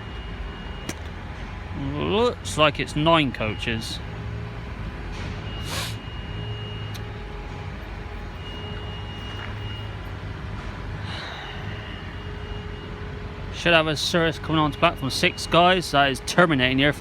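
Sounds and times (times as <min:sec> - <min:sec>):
train diesel engines humming: 0:00.0 - 0:17.0.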